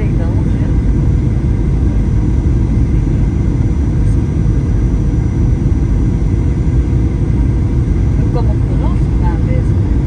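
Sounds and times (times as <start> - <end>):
airplane cabin roar: 0.0 - 10.0
faint steady whines: 0.0 - 10.0.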